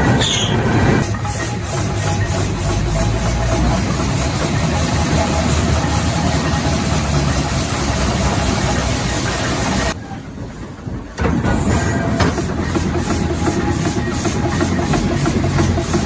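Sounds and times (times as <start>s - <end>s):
heavy machine engine running: 0.0s - 10.0s, 10.6s - 16.0s.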